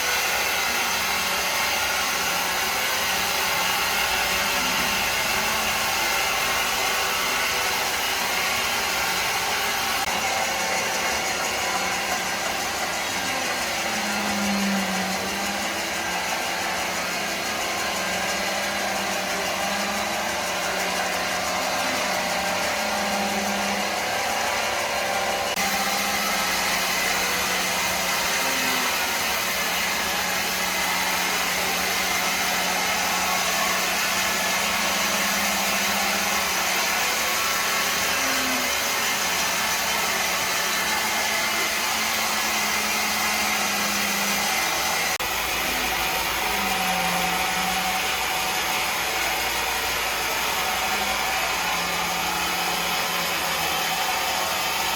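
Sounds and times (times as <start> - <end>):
woodworking machinery whirring: 0.0 - 54.9.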